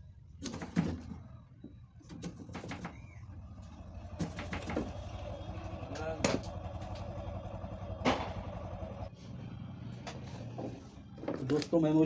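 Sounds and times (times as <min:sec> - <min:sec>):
motor engine droning: 0:01.0 - 0:12.0.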